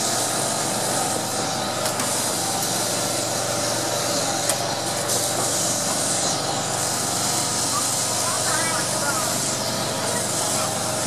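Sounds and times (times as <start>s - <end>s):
tram running noise: 0.0s - 11.0s.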